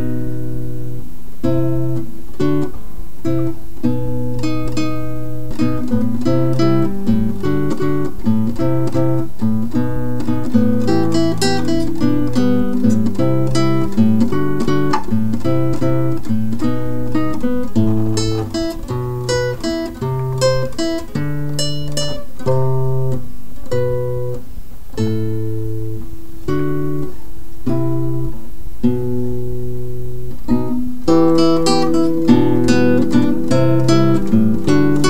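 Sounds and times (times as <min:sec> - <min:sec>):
solo acoustic guitar: 0:00.0 - 0:35.0.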